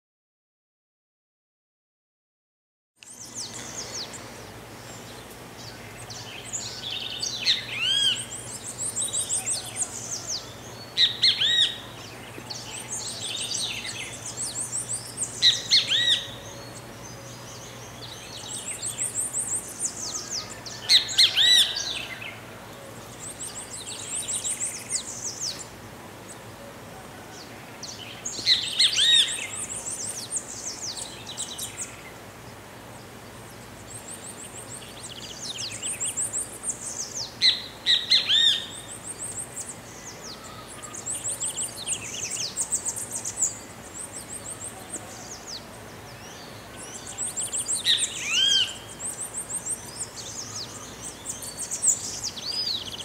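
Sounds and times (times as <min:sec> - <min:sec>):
bird calling and chattering: 0:03.0 - 0:22.2, 0:27.7 - 0:32.0, 0:33.6 - 0:53.0.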